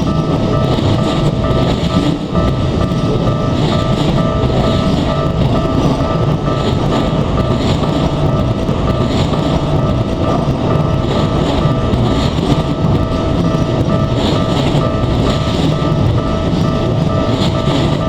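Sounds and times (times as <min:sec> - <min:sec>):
level crossing warning bell: 0:00.0 - 0:18.0
train wheel and rail rumble: 0:00.0 - 0:18.0.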